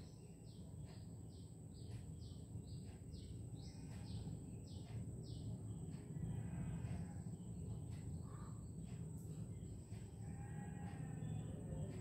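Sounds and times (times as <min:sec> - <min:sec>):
low background rumble: 0:00.0 - 0:12.0
small bird chirping: 0:00.0 - 0:12.0.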